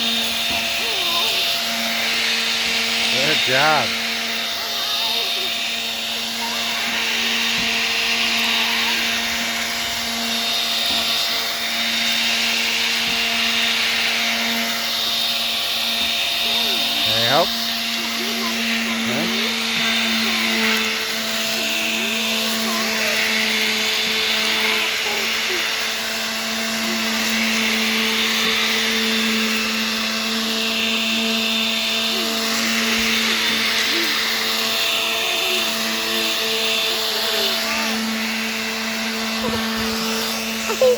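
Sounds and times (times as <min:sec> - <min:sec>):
electric sander on wood: 0:00.0 - 0:40.9.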